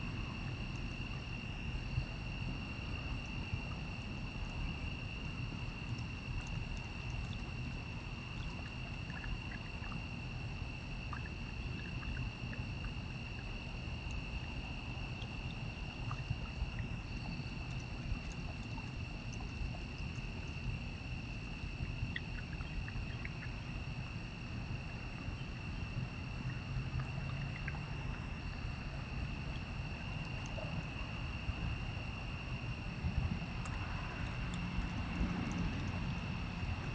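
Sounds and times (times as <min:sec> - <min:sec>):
crickets trilling: 0:00.0 - 0:36.9
low rumbling noise: 0:00.0 - 0:36.9.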